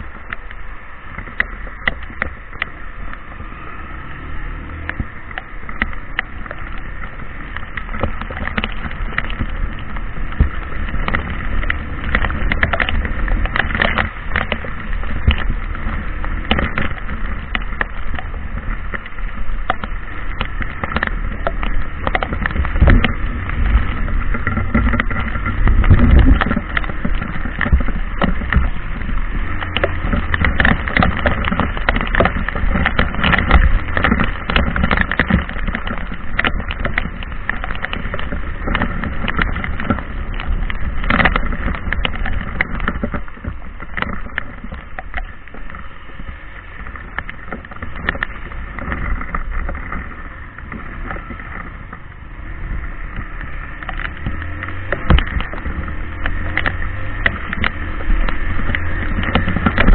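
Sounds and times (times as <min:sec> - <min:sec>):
heavy rain pattering: 0:00.0 - 0:59.9
low rumble: 0:00.0 - 0:59.9.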